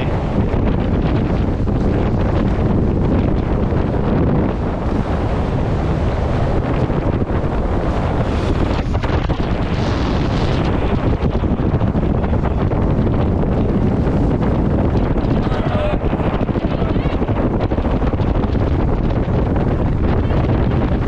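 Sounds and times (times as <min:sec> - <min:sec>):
steady low rumble: 0:00.0 - 0:21.0
water rushing along boat hulls: 0:00.0 - 0:21.0
wind buffeting microphone: 0:00.0 - 0:21.0.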